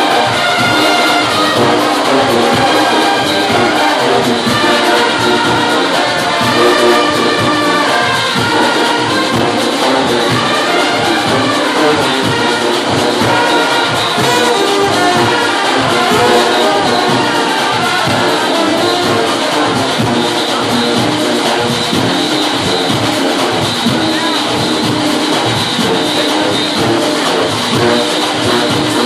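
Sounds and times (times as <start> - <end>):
brass band playing: 0.0 - 29.0
drum beat: 0.0 - 29.0.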